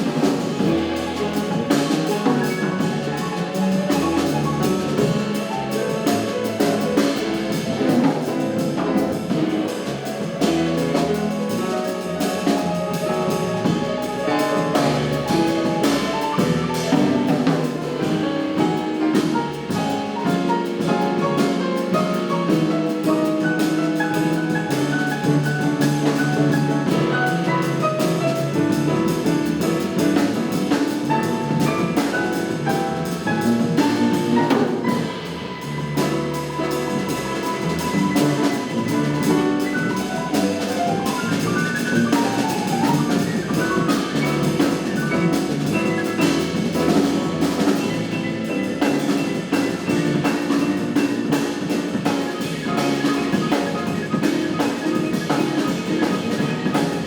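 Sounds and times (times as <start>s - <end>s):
double bass: 0.0s - 57.0s
drums and cymbals: 0.0s - 57.0s
piano: 0.0s - 57.0s.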